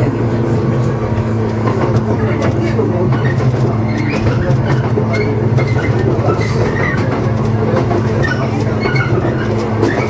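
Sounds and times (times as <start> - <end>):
electric train running hum: 0.0 - 10.0
wheel clacks over rail joints: 1.1 - 10.0.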